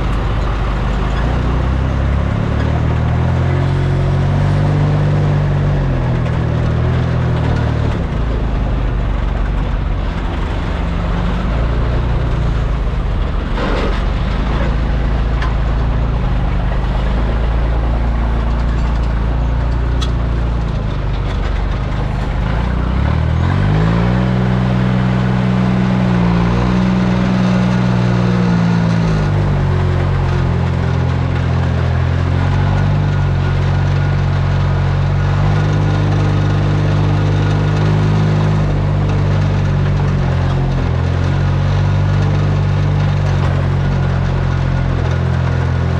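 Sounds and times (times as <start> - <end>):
truck engine driving: 0.0 - 45.9.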